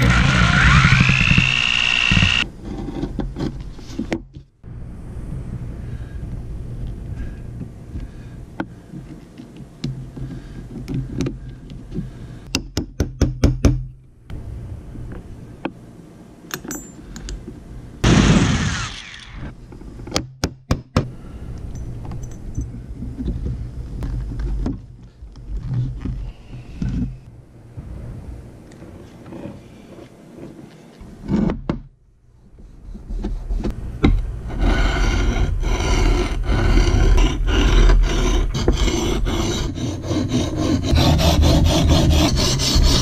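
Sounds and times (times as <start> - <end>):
low steady hum: 0.0 - 12.6, 13.8 - 20.2, 21.0 - 43.0.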